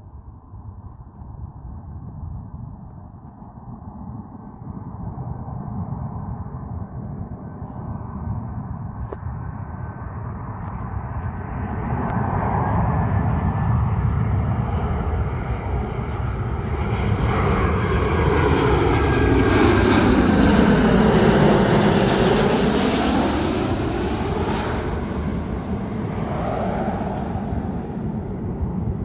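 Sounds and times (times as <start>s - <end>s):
jet airliner passing overhead: 0.0s - 29.0s.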